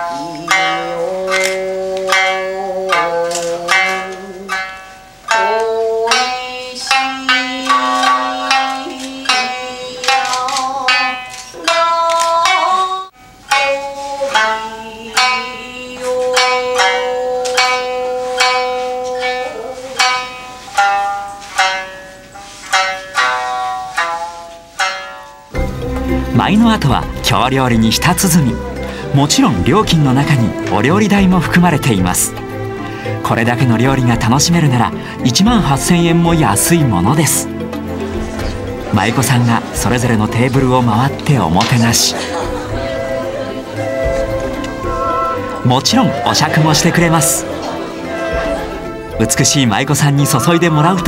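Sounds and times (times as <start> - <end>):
long held notes: 0.0 - 51.0
shamisen plucked: 0.0 - 51.0.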